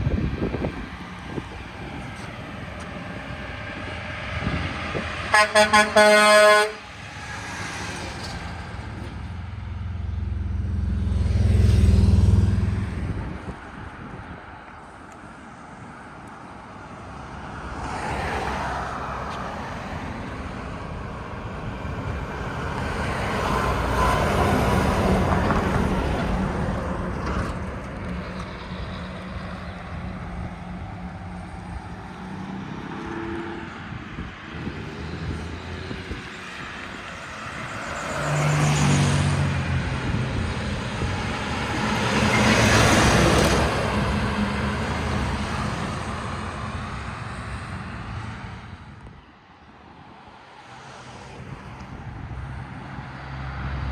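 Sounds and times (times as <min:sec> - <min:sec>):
vehicles passing: 0:00.0 - 0:53.9.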